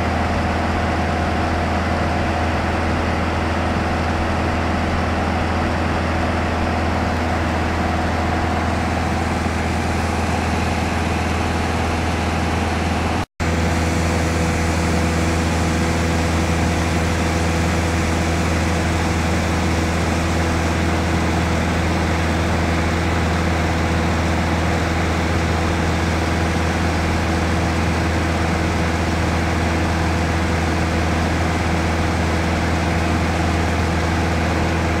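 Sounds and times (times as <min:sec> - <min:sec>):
aircraft piston engine and propeller: 0:00.0 - 0:35.0.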